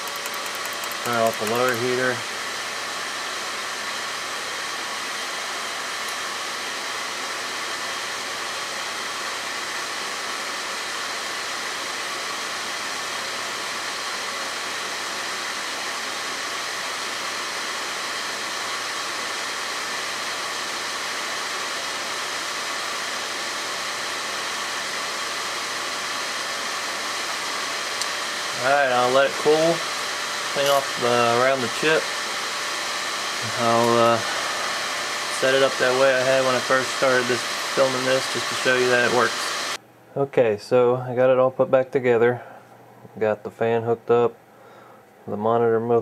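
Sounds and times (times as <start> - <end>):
cooling fan blowing air: 0.0 - 40.8.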